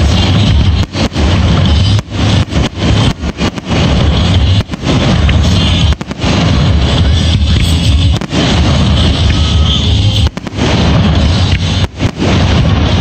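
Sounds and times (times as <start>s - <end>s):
distorted fireworks bursting: 0.0s - 13.0s
music: 0.0s - 13.0s.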